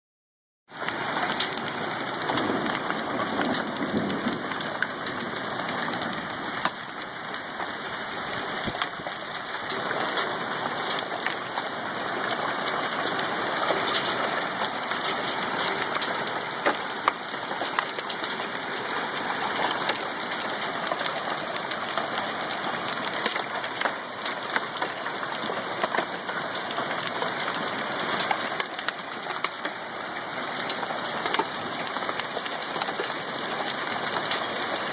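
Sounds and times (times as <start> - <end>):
falling hail rushing: 0.7 - 34.9
hailstones striking ticks: 0.8 - 34.9.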